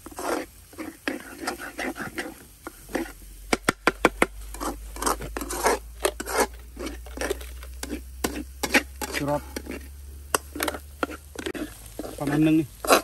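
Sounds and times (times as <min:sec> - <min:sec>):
metal spatula scraping frying pan: 0:00.0 - 0:13.0.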